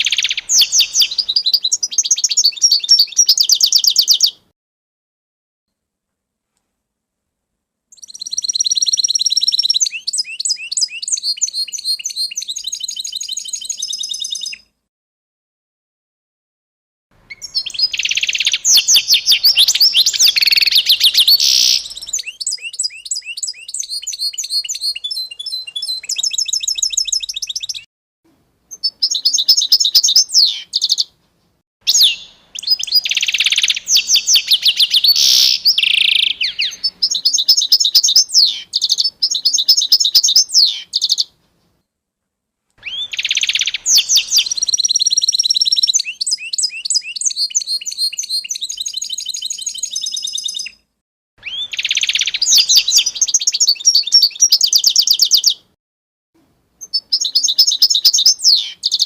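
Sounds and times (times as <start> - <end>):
songbirds chirping and trilling: 0.0 - 4.5, 7.9 - 14.7, 17.2 - 27.9, 28.7 - 31.2, 31.9 - 41.8, 42.8 - 50.8, 51.4 - 55.8, 56.8 - 59.0.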